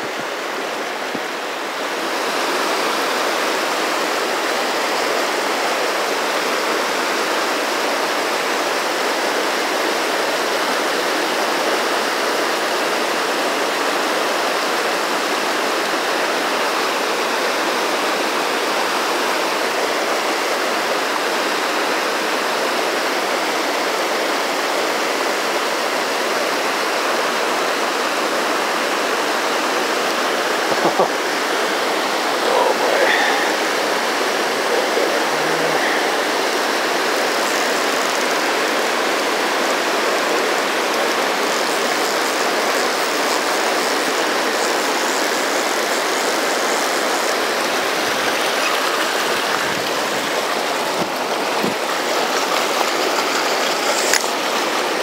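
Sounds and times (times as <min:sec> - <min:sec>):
water rushing over rocks: 0:00.0 - 0:55.0.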